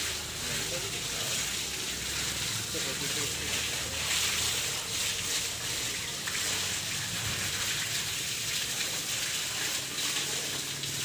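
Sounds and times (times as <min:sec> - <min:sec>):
water gushing from hose: 0:00.0 - 0:11.0
water splashing on tiled floor: 0:00.0 - 0:11.0.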